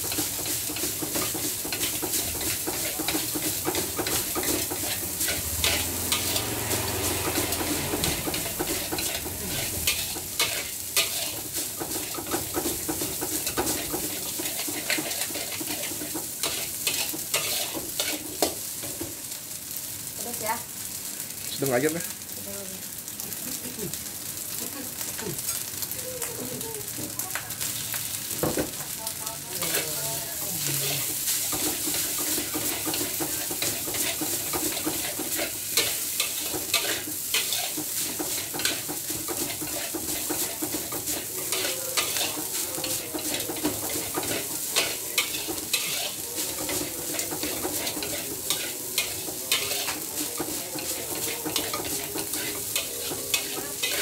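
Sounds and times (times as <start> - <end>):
spatula scraping and clinking wok: 0.0 - 19.1, 29.6 - 54.0
rice sizzling in a wok: 0.0 - 54.0.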